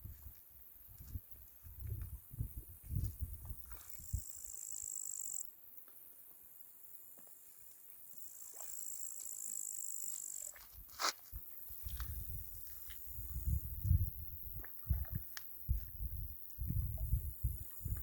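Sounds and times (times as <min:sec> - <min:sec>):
crickets trilling: 0:00.6 - 0:18.0.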